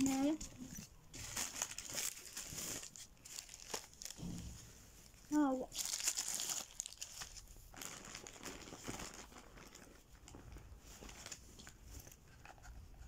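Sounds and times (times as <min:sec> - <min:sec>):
hands rummaging through a bag: 0:00.0 - 0:05.2, 0:05.8 - 0:13.0
plastic wrapper crinkling: 0:00.0 - 0:12.2.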